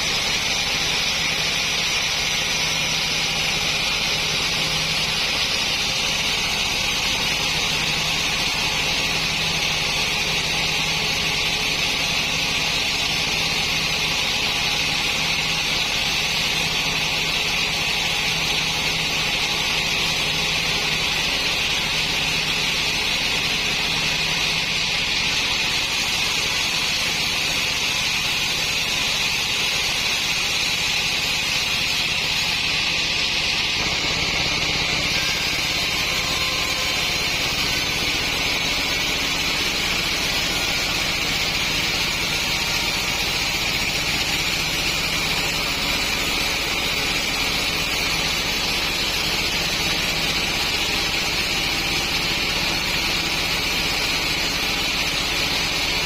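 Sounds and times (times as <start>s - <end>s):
saw blade cutting through log: 0.0s - 56.0s.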